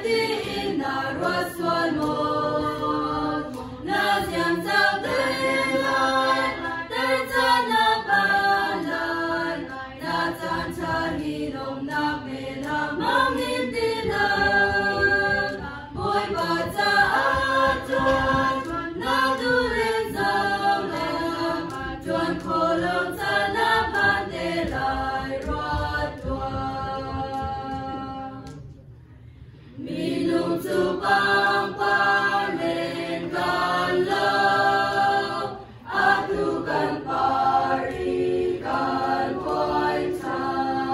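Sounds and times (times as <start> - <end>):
choir singing a hymn: 0.0 - 28.7, 29.5 - 40.9.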